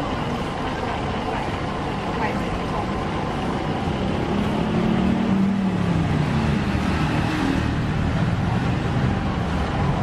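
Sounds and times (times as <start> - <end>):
busy street noise: 0.0 - 10.0
vehicle engine running nearby: 0.0 - 10.0.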